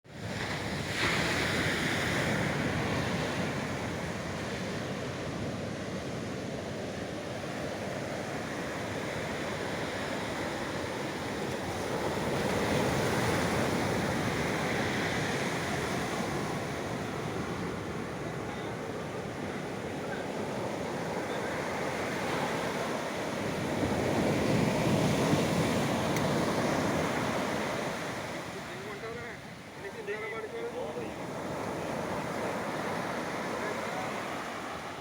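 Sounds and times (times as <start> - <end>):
ocean surf breaking on beach: 0.1 - 35.0.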